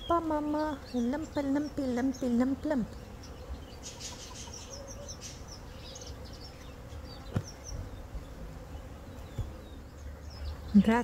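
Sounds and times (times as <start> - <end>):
bee buzzing: 0.0 - 11.0
small birds chirping: 0.0 - 11.0.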